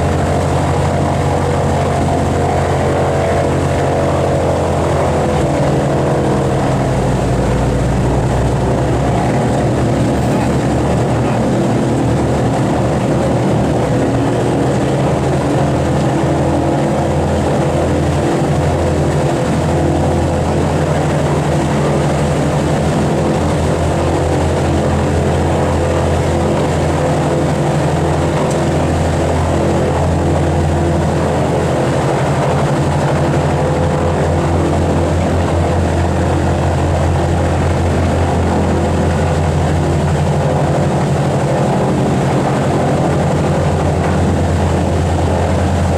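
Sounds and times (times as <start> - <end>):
radial piston engines running: 0.0 - 45.9.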